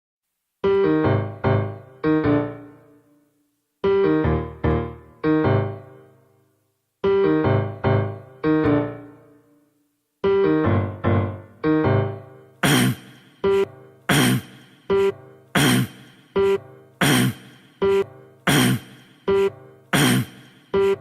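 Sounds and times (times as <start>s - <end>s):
piano chords: 0.6s - 21.0s.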